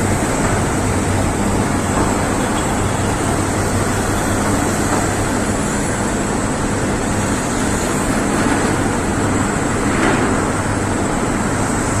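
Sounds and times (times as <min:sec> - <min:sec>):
blast furnace noise: 0:00.0 - 0:12.0
excavator diesel engine running: 0:00.0 - 0:12.0.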